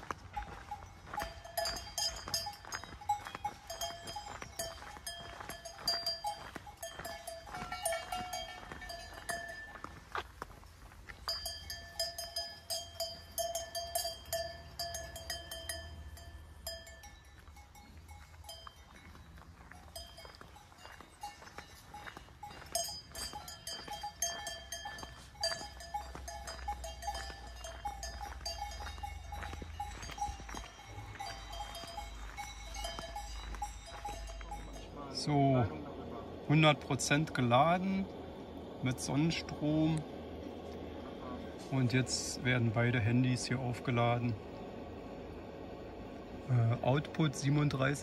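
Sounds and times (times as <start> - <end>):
livestock bells clanking: 0.0 - 38.0, 46.4 - 48.0.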